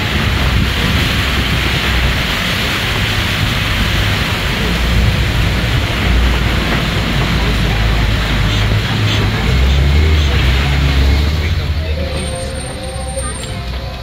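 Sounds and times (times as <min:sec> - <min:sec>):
truck engine rumble: 0:00.0 - 0:14.0
water rushing over rocks: 0:00.0 - 0:14.0.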